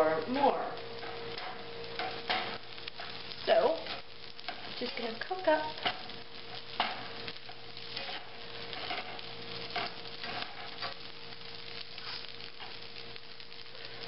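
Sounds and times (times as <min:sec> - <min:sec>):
food sizzling in a frying pan: 0:00.0 - 0:14.0
spatula scraping a pan: 0:01.0 - 0:12.9.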